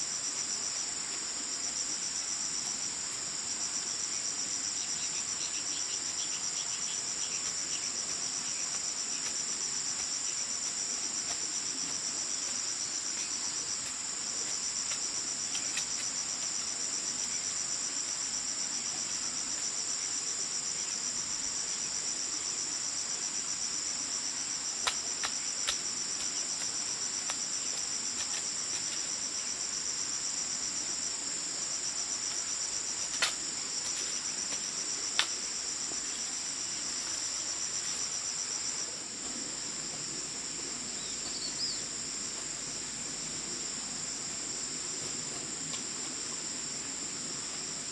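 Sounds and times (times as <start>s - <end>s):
insect chorus trilling: 0.0s - 47.9s.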